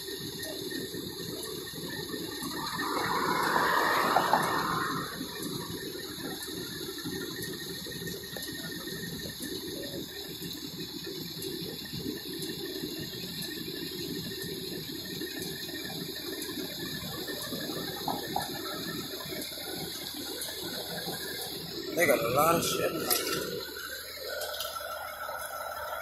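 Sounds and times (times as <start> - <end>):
fire engine rumbling: 0.0 - 26.0.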